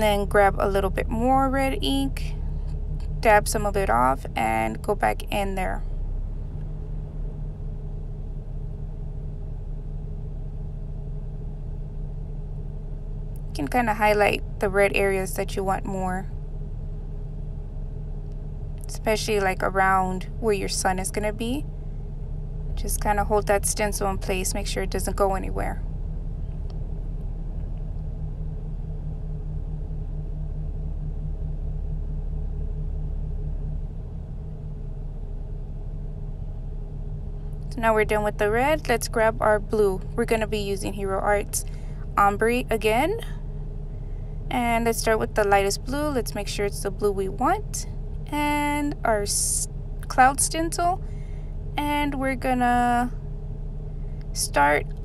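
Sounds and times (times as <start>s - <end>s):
low background rumble: 0.0s - 55.0s
low hum: 0.0s - 55.0s.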